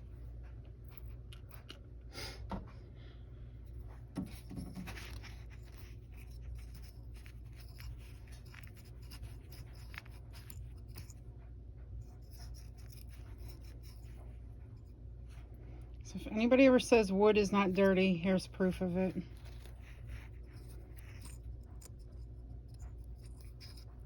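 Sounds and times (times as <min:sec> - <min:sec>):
steady low hum: 0:00.0 - 0:24.0
scraping and rubbing: 0:03.7 - 0:16.5, 0:17.3 - 0:24.0.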